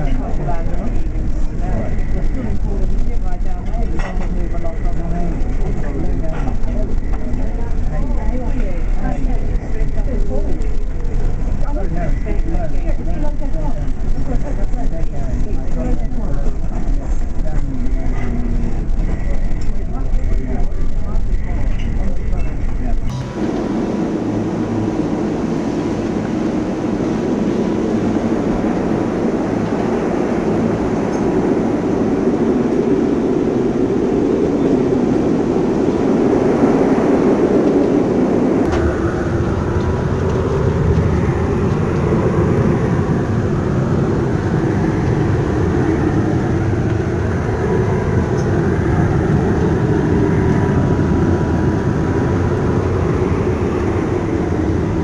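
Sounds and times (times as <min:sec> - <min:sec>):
wind and rough sea rumble: 0:00.0 - 0:55.0.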